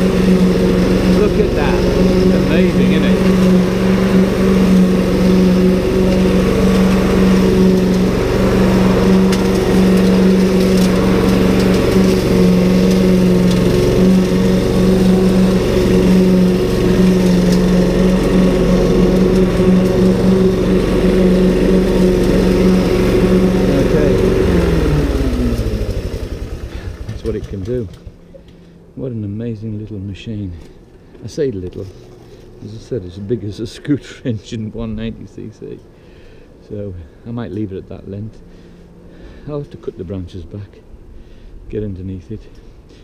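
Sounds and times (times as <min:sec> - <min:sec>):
lawn mower running: 0:00.0 - 0:41.6.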